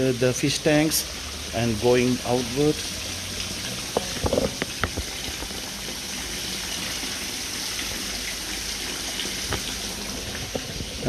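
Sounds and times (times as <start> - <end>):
water rushing out of tanks: 0.0 - 11.0.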